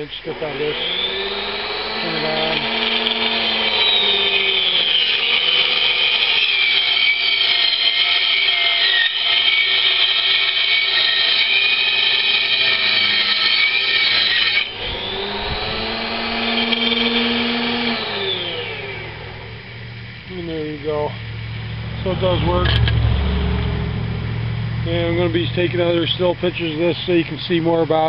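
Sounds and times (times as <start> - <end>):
table saw motor whine: 0.0 - 27.2.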